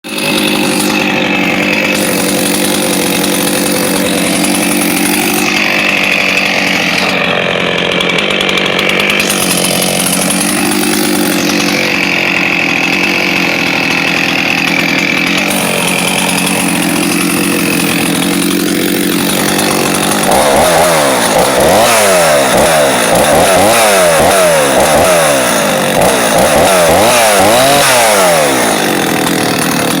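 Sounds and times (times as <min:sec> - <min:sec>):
chainsaw running: 0:00.0 - 0:30.0.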